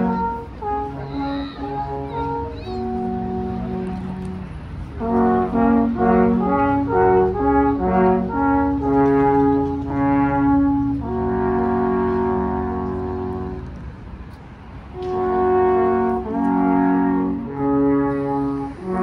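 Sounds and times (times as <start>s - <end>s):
alphorns playing in harmony: 0.0s - 13.8s, 15.0s - 19.0s.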